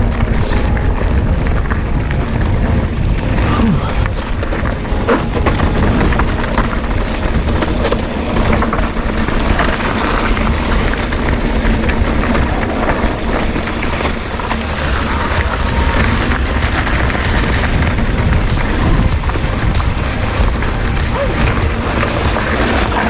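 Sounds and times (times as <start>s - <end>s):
tyres rolling over rough ground: 0.0s - 23.0s
wind rush over microphone: 0.0s - 23.0s.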